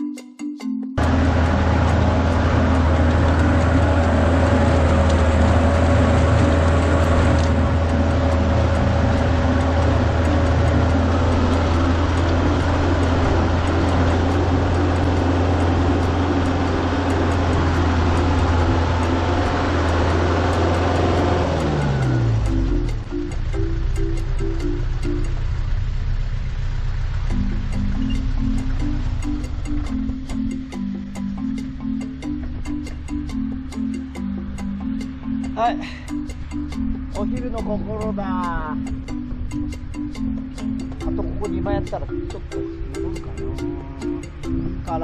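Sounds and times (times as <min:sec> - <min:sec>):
vehicle engine droning: 0:01.0 - 0:45.0.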